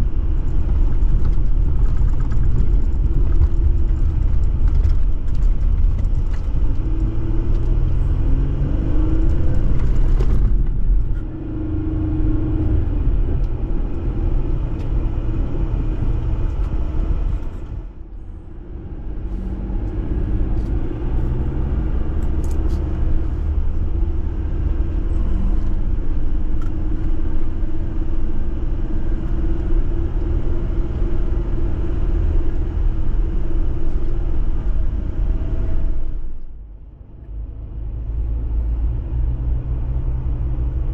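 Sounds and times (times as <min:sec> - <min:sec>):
car engine rumbling off-road: 0:00.0 - 0:40.9.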